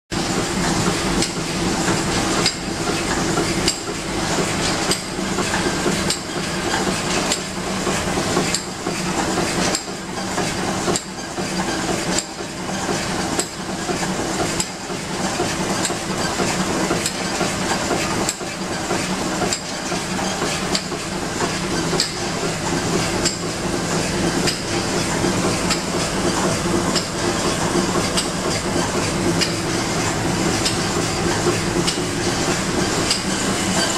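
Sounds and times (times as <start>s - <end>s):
machine clacking: 0.2s - 33.9s
packing machine humming: 0.2s - 33.9s.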